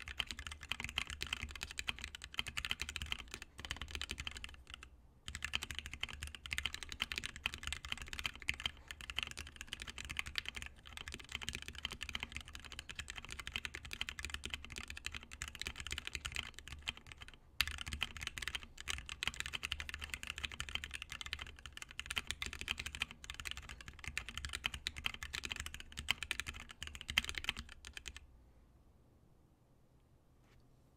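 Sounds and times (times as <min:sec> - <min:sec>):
mechanical keyboard typing: 0:00.0 - 0:28.2.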